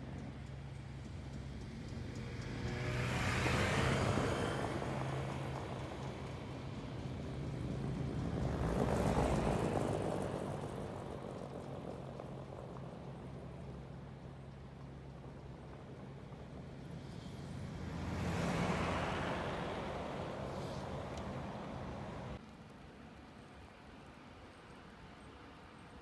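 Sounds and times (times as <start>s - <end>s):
vehicles passing on road: 0.0s - 22.4s.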